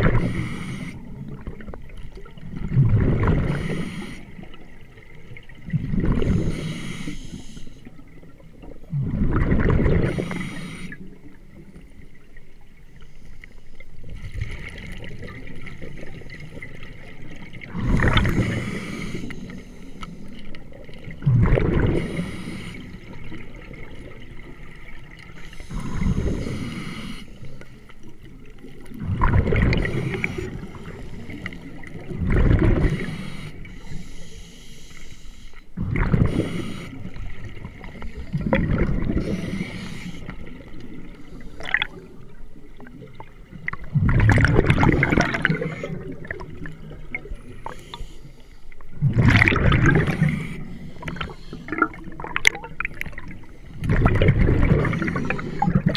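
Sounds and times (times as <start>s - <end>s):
bubbling exhaled air underwater: 0.0s - 7.4s, 8.1s - 11.8s, 14.1s - 19.7s, 20.3s - 27.5s, 28.3s - 33.8s, 35.8s - 48.1s, 48.9s - 55.9s.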